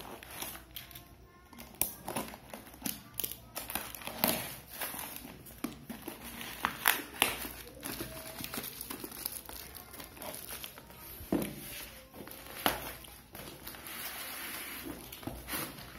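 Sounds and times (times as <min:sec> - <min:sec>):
bubble wrap crinkling: 0:00.0 - 0:15.9.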